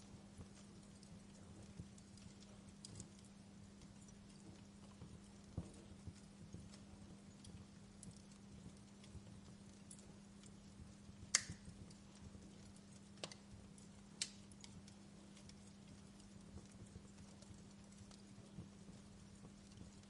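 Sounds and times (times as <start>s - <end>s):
faint low hum: 0.0s - 20.0s
wood fire crackling: 0.0s - 20.0s
fire pops: 0.3s - 20.0s.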